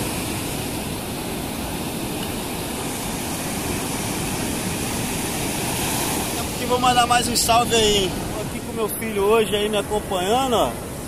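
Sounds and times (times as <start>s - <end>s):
ocean surf breaking on sand: 0.0s - 11.0s.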